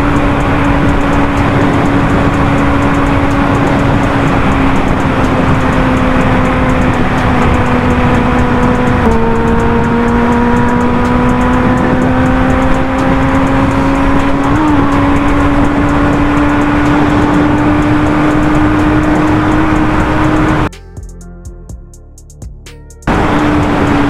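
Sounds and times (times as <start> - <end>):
motorcycle engine accelerating: 0.0 - 20.7, 23.0 - 24.0
wind rush on microphone: 0.0 - 20.7, 23.1 - 24.0.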